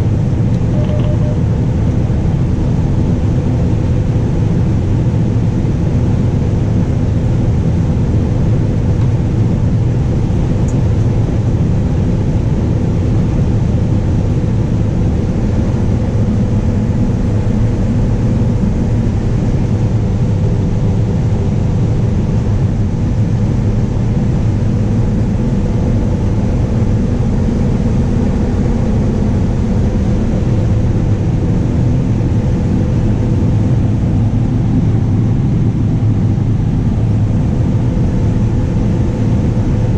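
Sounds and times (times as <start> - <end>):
combine harvester running: 7.9 - 39.9.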